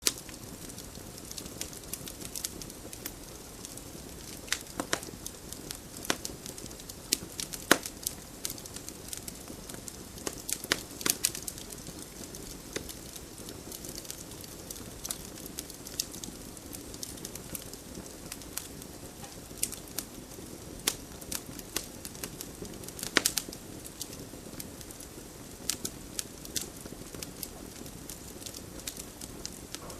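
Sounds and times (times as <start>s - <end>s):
logs crackling and popping: 0.0s - 29.9s
low rush of flame: 0.0s - 29.9s.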